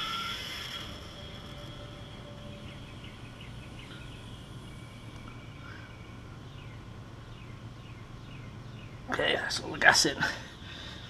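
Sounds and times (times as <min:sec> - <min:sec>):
birds chirping: 0:00.0 - 0:11.0
faint low hum: 0:00.0 - 0:11.0.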